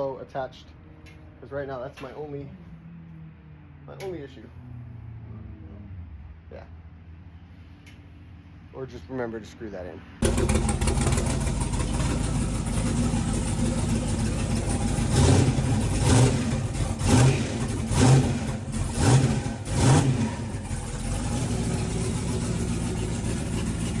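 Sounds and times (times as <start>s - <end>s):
race car engine idling and revving: 0.3s - 8.7s, 10.0s - 24.0s.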